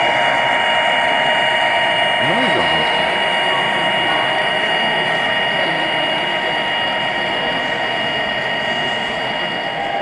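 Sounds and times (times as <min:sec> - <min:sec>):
high steady whine: 0:00.0 - 0:10.0.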